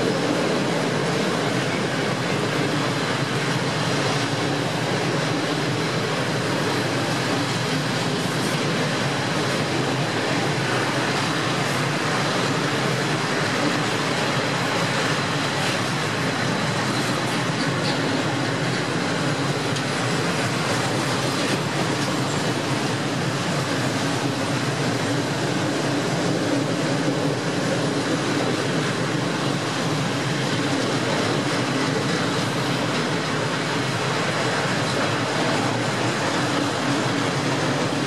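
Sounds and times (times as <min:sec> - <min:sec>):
train wheels running on rails: 0:00.0 - 0:38.0.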